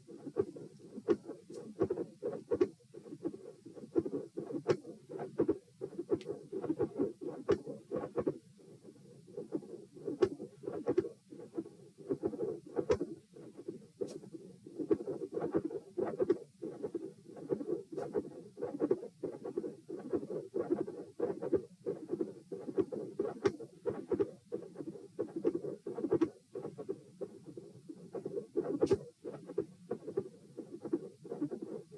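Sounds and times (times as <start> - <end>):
heartbeat through stethoscope: 0.0 - 31.9.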